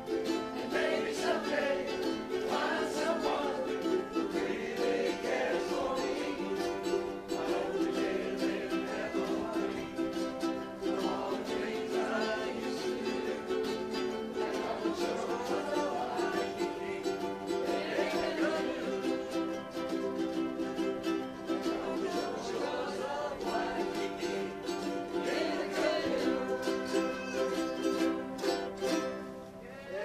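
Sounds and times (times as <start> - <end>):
ukuleles strumming chords: 0.0 - 30.0.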